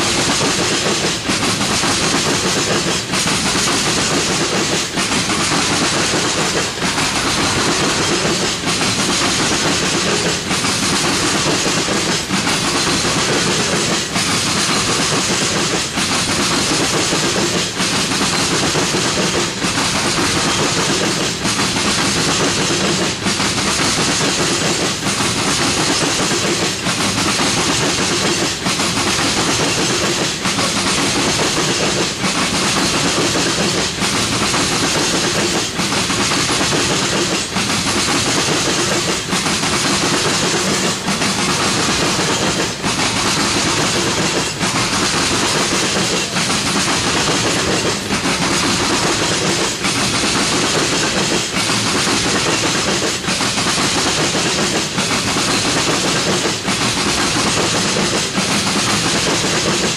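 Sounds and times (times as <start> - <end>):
steel wheels rushing on rail: 0.0 - 59.9.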